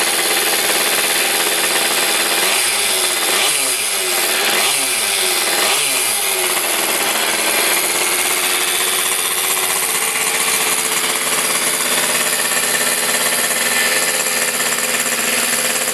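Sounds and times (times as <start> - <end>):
two-stroke moped engine running: 0.0 - 15.9.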